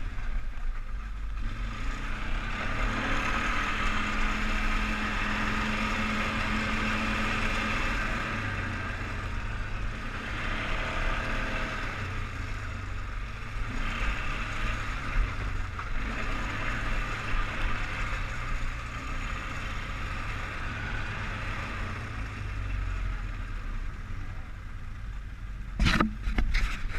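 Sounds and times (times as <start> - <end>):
atv engine running: 0.0 - 26.9.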